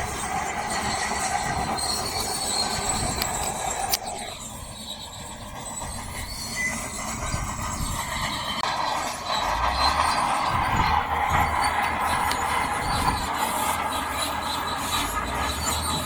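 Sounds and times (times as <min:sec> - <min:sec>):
earthmoving machine working rock: 0:00.0 - 0:16.0
high metallic squealing: 0:00.0 - 0:16.0.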